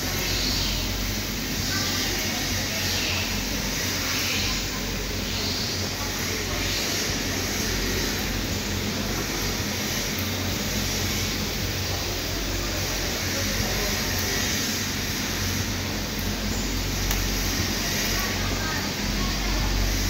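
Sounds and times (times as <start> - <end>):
low machinery hum: 0.0 - 20.0
machinery hiss: 0.0 - 20.0.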